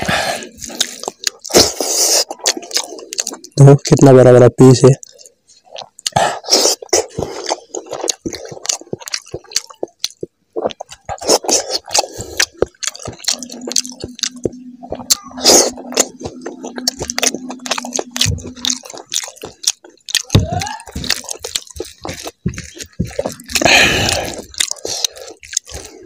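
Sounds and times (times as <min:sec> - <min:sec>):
wet chewing and lip-smacking: 0:00.0 - 0:26.0.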